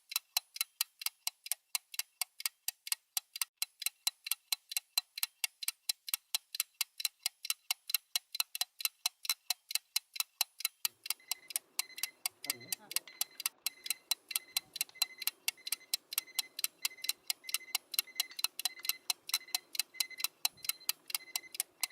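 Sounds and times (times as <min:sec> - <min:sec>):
watch ticking fast: 0:00.0 - 0:21.9.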